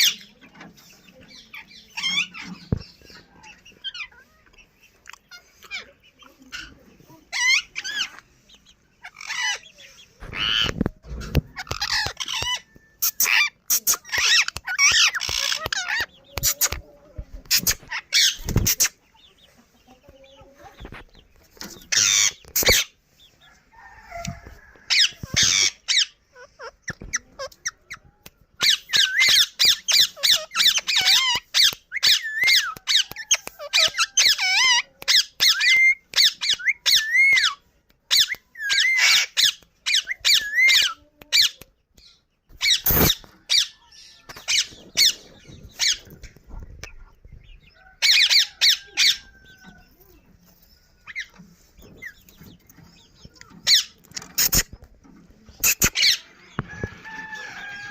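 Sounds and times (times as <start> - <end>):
parrot chicks squeaking: 0.0 - 57.9.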